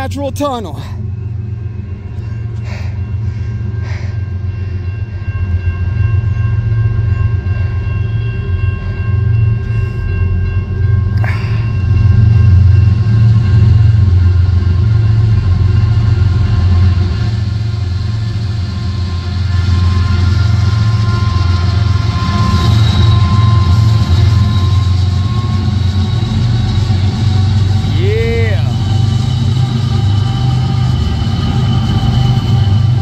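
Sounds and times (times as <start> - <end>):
diesel locomotives rumbling: 0.0 - 33.0.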